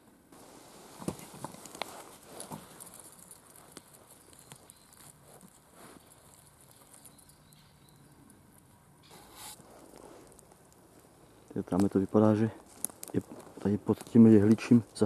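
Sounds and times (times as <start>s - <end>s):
rustling of dry pine needles: 0.3s - 15.0s.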